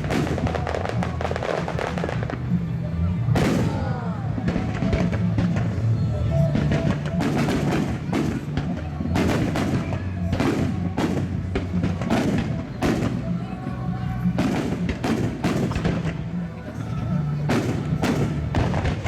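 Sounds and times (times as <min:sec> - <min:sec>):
fireworks booming: 0:00.0 - 0:13.4, 0:14.2 - 0:16.4, 0:17.4 - 0:19.0
music playing: 0:00.0 - 0:19.0.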